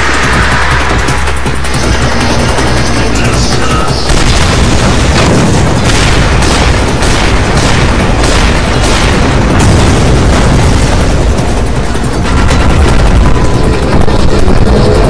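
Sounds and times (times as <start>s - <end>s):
explosions booming: 0.0s - 15.0s
gunfire: 0.0s - 15.0s
heavy rumble: 0.0s - 15.0s.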